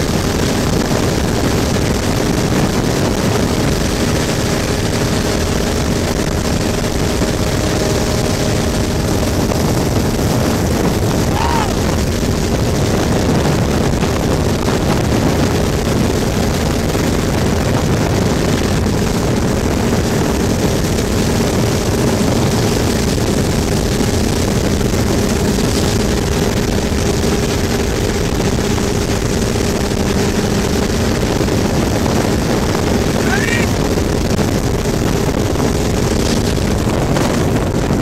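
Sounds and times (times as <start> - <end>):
motorboat engine running: 0.0 - 38.0
wind and water spray rushing: 0.0 - 38.0.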